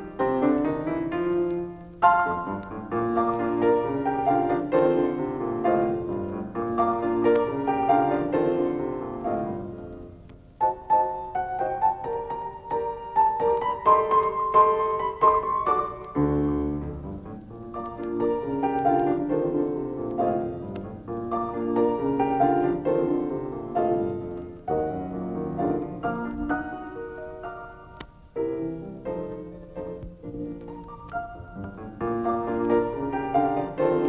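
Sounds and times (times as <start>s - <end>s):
lively solo piano: 0.0s - 34.0s.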